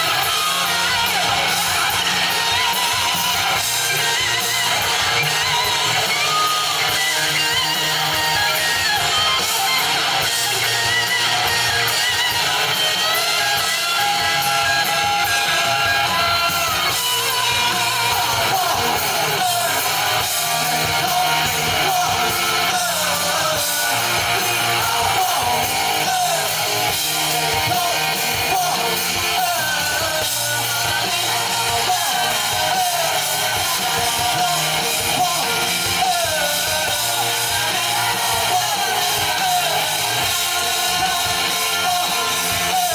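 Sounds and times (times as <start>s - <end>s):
electric guitar: 0.0s - 42.9s
live rock band playing: 0.0s - 42.9s
person singing: 0.0s - 42.9s.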